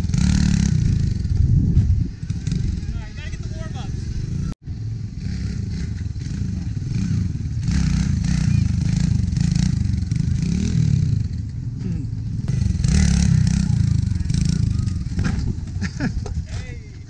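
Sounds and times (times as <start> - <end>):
motorbike engine revving: 0.0 - 16.4.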